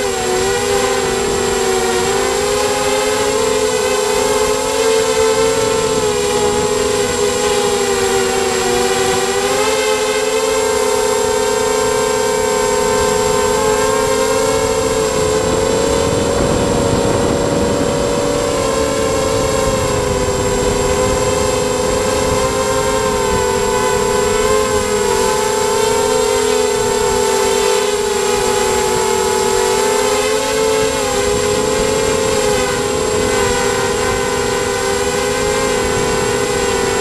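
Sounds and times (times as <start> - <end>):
drone motors whining: 0.0 - 37.0
wind noise rush: 0.0 - 37.0.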